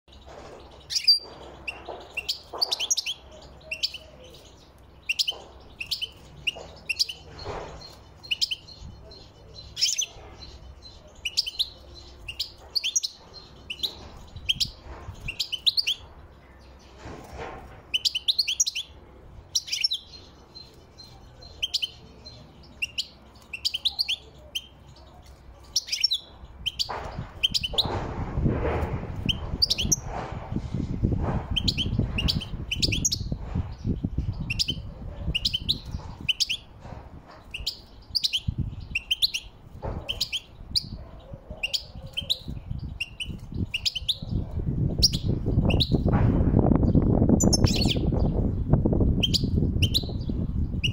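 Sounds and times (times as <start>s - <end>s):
finch singing: 0.1s - 50.9s.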